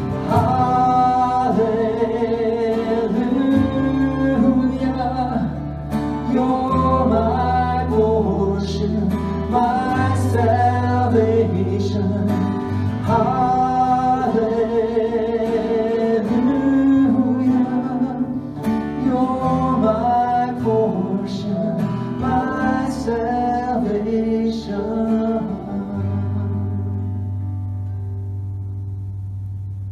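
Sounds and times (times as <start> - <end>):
person singing: 0.0 - 5.6, 6.2 - 27.2
acoustic guitar: 0.0 - 29.9
electric bass: 0.0 - 29.9
keyboard: 0.0 - 29.9.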